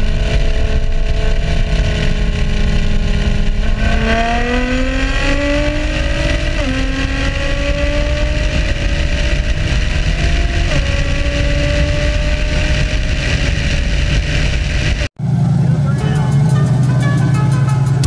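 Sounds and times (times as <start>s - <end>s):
car engine accelerating hard: 0.0s - 18.0s
heavy low rumble: 0.0s - 18.0s.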